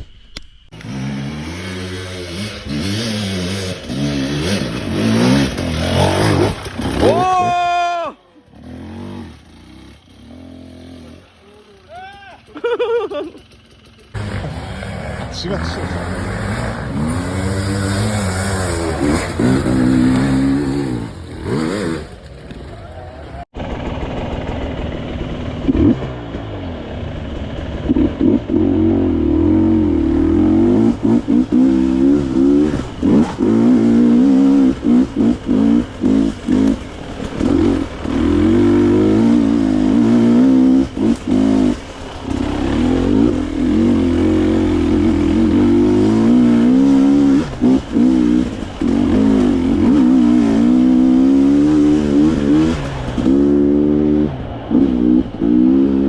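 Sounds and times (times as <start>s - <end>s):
dirt bike engine revving: 0.7s - 56.0s.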